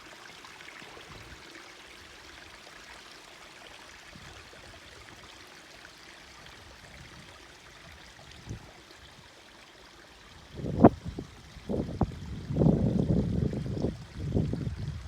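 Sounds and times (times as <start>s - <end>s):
stream running faintly: 0.0s - 15.0s.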